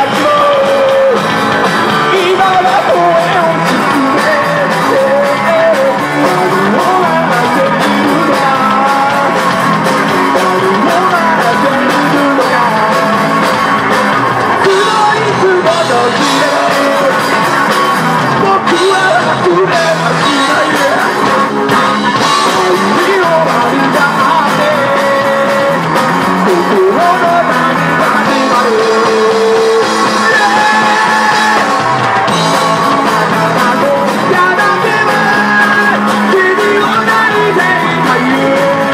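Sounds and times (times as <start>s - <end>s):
drums: 0.0s - 38.9s
electric guitars: 0.0s - 38.9s
man singing: 0.0s - 38.9s.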